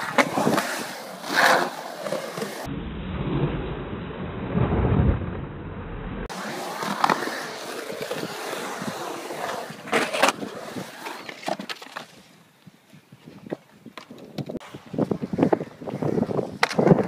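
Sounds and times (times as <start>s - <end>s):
skateboard wheels rolling on concrete: 0.0s - 3.6s, 4.2s - 17.0s.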